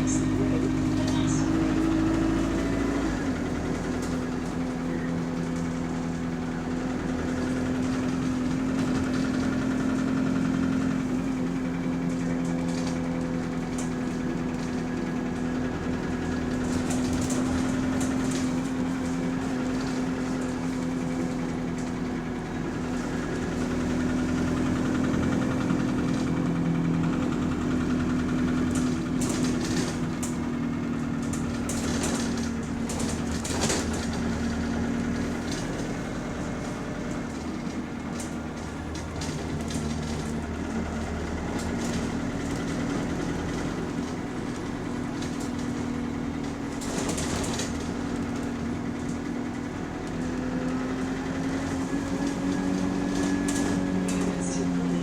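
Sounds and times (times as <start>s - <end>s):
bus engine humming: 0.0s - 55.0s
rattles and clicks: 3.3s - 55.0s.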